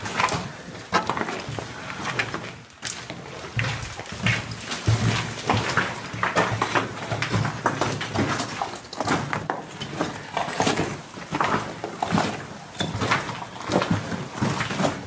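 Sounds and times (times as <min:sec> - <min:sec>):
footsteps crunching over rubble: 0:00.0 - 0:15.0.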